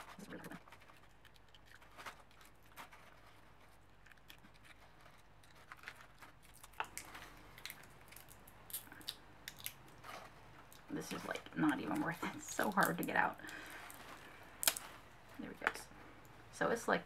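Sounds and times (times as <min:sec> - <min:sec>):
candy wrapper crinkling: 0:00.0 - 0:15.5.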